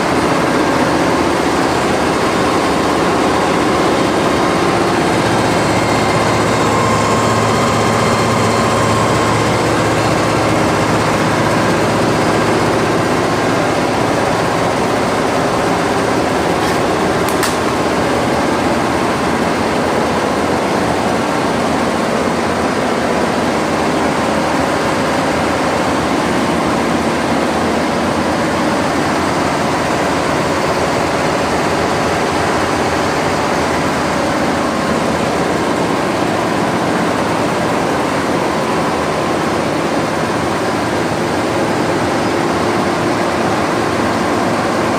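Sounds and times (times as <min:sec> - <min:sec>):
embroidery machine running: 0:00.0 - 0:44.9.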